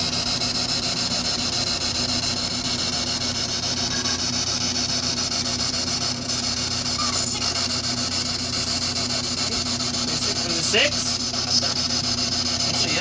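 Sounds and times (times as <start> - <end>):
radio static with choppy flutter: 0.3 - 13.0.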